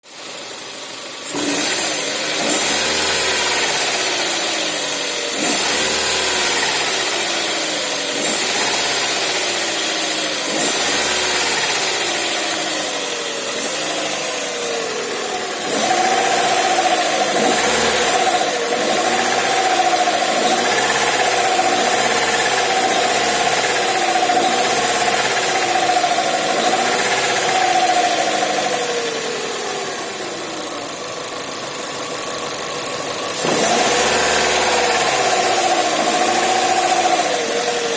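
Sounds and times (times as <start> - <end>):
car engine revving: 1.1 - 37.9.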